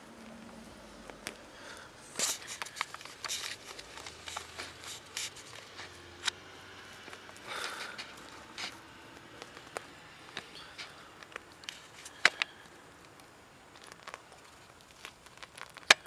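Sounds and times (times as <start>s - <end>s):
rustling through leafy brush: 0.0s - 16.0s
sharp clicks and snaps: 2.2s - 6.4s, 7.1s - 16.0s.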